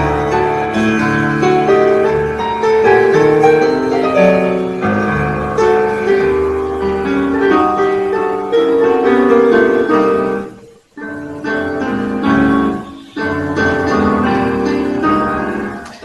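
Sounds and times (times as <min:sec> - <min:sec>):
piano background music: 0:00.0 - 0:16.0.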